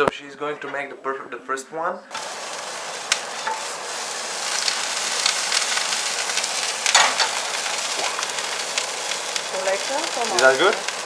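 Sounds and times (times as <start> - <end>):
batter sizzling in a pan: 2.1 - 11.0
loud crackle: 2.1 - 11.0.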